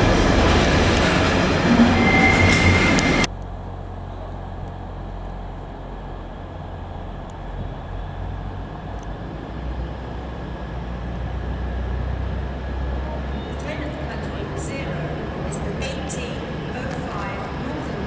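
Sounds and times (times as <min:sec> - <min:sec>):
loud train noise: 0:00.0 - 0:18.0
low engine rumble: 0:00.0 - 0:18.0.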